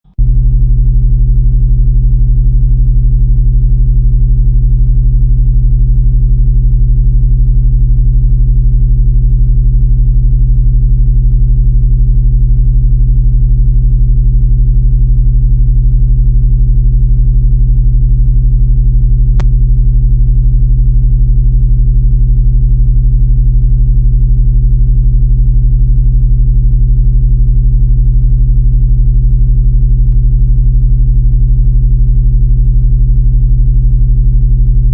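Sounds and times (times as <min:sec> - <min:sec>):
synthesized low drone: 0:00.0 - 0:34.9.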